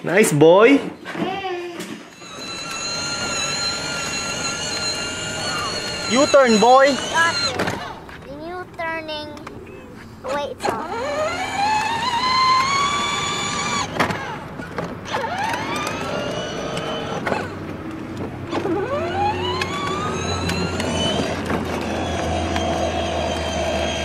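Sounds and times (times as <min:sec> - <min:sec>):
electric motors whining: 0:01.2 - 0:08.2, 0:10.3 - 0:24.0.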